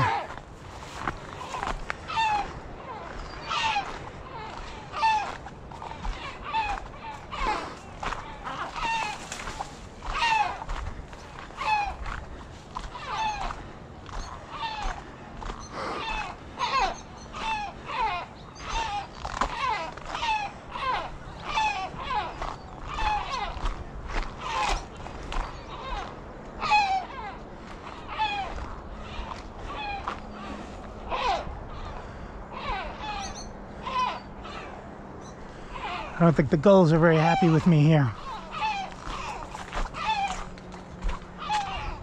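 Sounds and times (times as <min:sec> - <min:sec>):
gulls alarm calls: 0:00.0 - 0:42.0.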